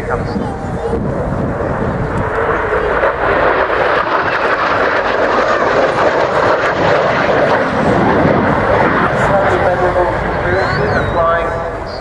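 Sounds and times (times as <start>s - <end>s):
jet fighter flying past: 0.0s - 12.0s.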